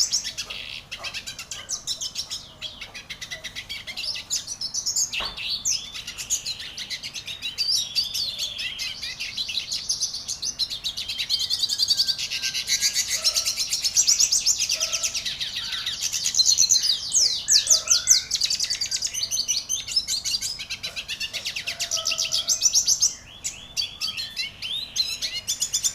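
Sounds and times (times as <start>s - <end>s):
songbird trilling and chirping: 0.0s - 25.9s.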